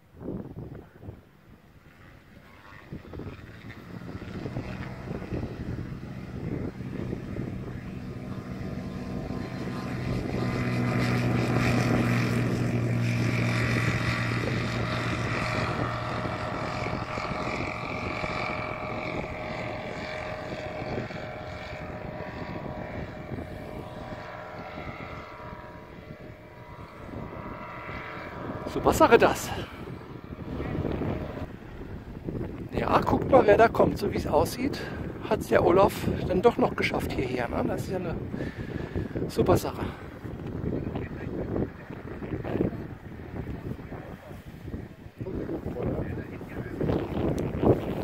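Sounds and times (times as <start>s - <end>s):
propeller aircraft engine taking off: 0.0s - 48.0s.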